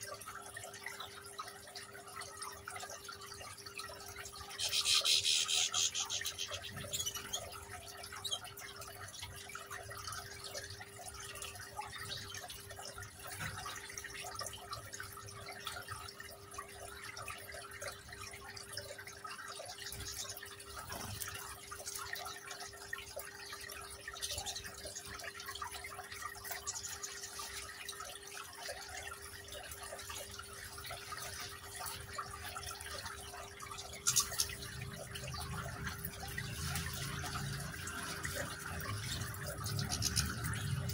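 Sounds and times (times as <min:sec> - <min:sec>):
water fountain trickling: 0:00.0 - 0:40.9.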